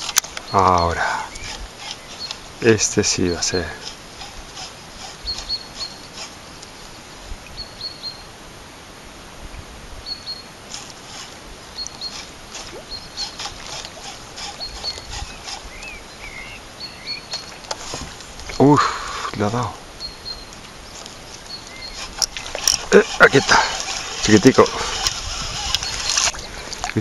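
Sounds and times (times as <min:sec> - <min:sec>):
small bird chirping: 0:00.0 - 0:08.3, 0:10.0 - 0:10.9, 0:11.7 - 0:17.8, 0:18.4 - 0:26.7.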